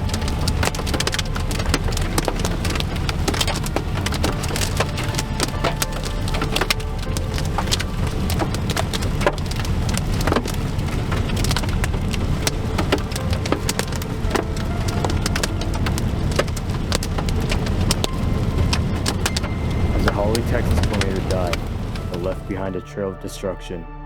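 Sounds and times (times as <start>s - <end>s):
heavy rain pelting a vehicle: 0.0s - 23.1s
steady low rumble: 0.0s - 24.0s.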